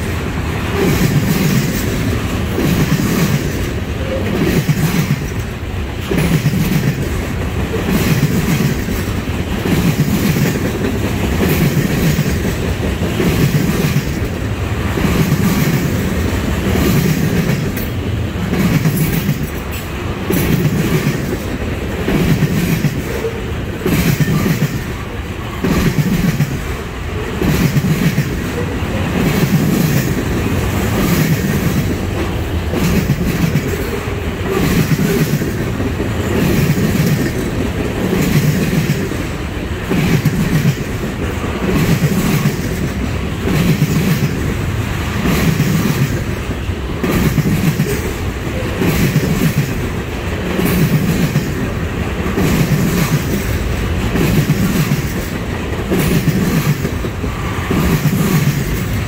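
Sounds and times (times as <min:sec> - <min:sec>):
steel wheels clicking over rail joints: 0:00.0 - 0:59.0.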